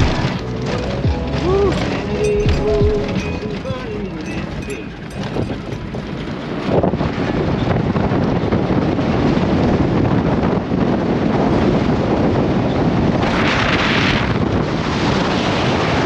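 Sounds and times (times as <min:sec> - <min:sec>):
steady low rumble: 0:00.0 - 0:13.2
wind buffeting microphone: 0:00.0 - 0:16.0.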